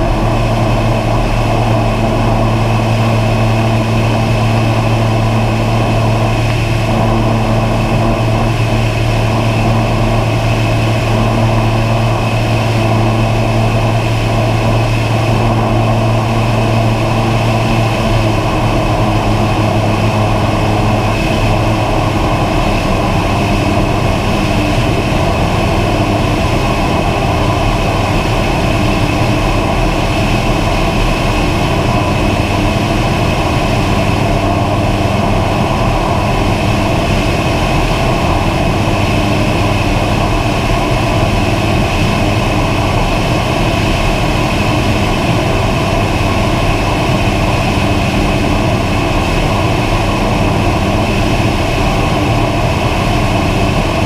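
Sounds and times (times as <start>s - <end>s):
aircraft propeller and motor hum: 0.0s - 54.0s.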